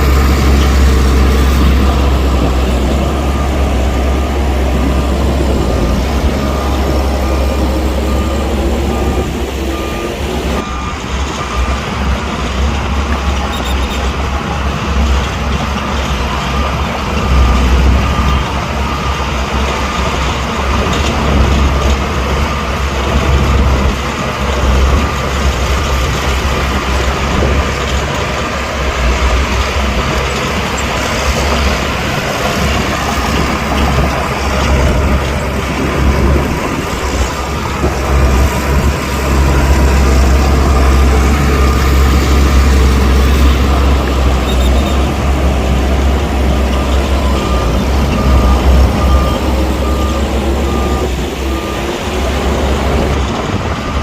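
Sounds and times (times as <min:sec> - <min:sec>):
reversing alarm beeping: 0:00.0 - 0:15.0, 0:15.8 - 0:54.0
heavy diesel machinery running: 0:00.0 - 0:54.0.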